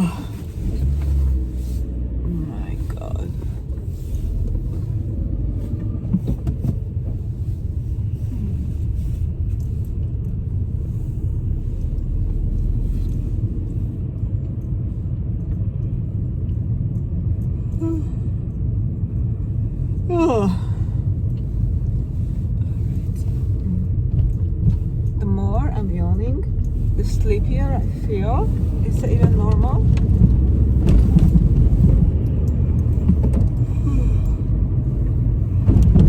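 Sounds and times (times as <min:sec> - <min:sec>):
car interior rumble: 0:00.0 - 0:36.0.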